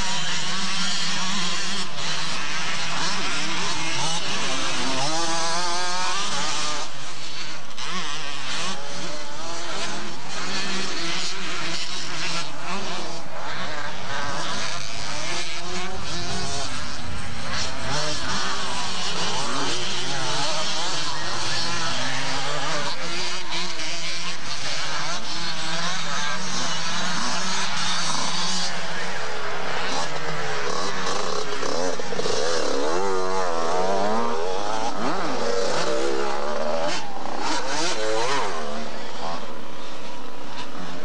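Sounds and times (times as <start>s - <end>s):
motocross engines racing: 0.0s - 41.0s.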